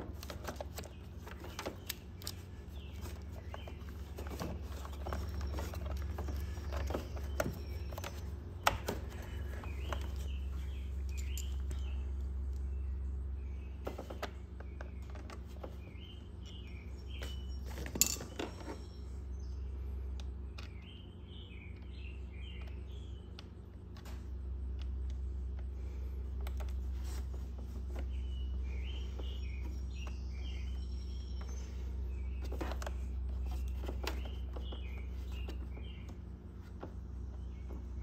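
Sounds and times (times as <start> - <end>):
steady low hum: 0.0 - 38.0
small bird chirping: 0.2 - 38.0.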